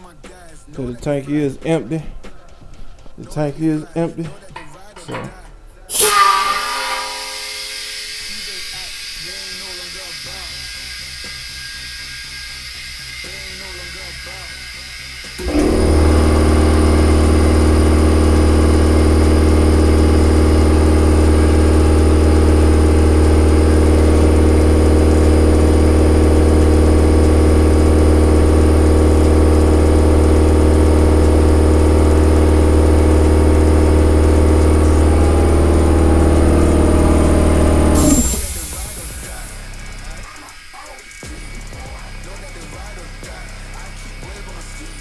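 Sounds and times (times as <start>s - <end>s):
electric air compressor running: 5.9s - 45.0s.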